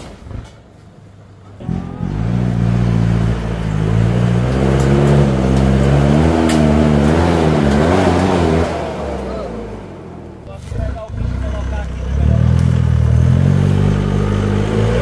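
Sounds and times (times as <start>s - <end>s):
off-road vehicle engine revving: 1.5s - 15.0s.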